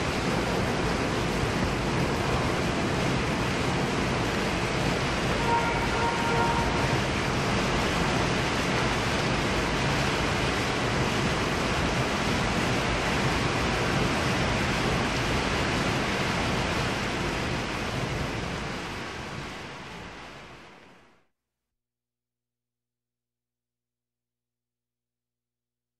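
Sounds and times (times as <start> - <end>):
steady rain hiss: 0.0 - 21.3.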